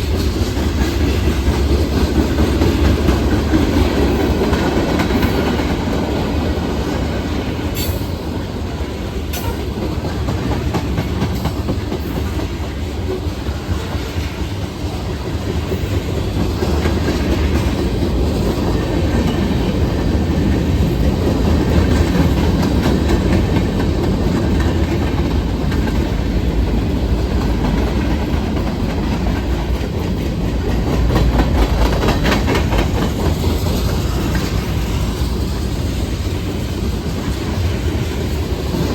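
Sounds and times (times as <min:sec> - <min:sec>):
clickety-clack of wheels on rails: 0:00.0 - 0:38.9
freight train cars rumbling: 0:00.0 - 0:38.9.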